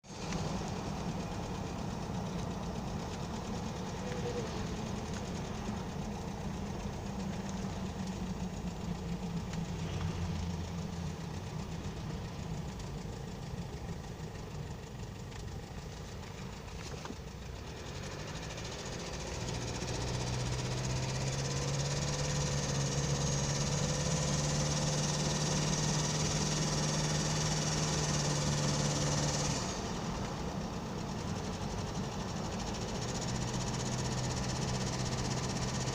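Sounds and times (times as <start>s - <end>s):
diesel engine running with knock: 0.0s - 35.9s.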